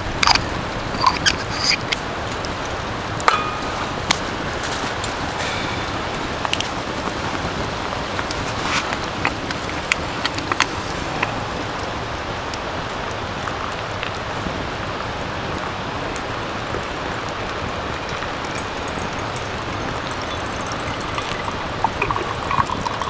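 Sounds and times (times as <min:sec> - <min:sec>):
wood fire crackling and hissing: 0:00.0 - 0:23.0.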